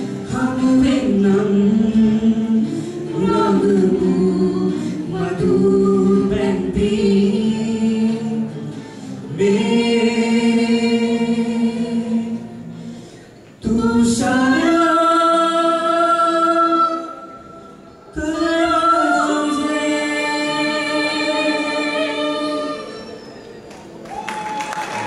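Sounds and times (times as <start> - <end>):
woman and man singing harmony: 0.0 - 13.0, 13.6 - 23.4
acoustic guitars: 0.0 - 24.0.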